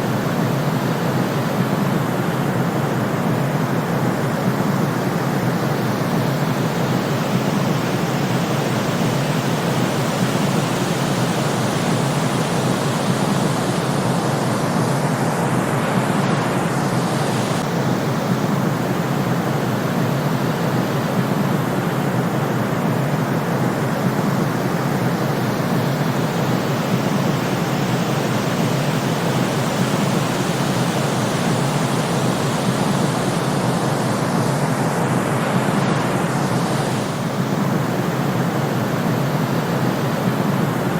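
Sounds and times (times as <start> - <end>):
steady low white noise: 0.0 - 40.9.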